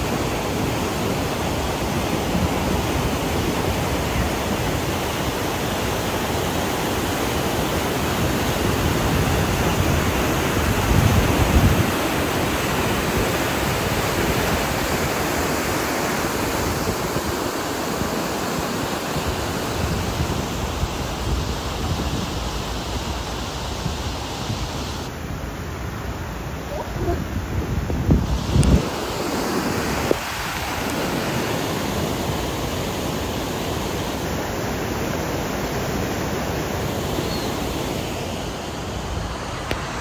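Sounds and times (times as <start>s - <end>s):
river rushing over a weir: 0.0s - 40.0s.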